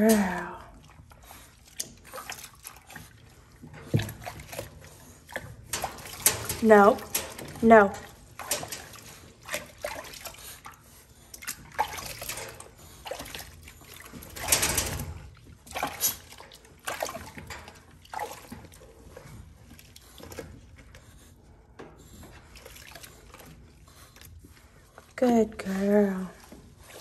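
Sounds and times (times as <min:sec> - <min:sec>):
water splashing in plastic tub: 0:00.0 - 0:20.5, 0:22.3 - 0:23.5.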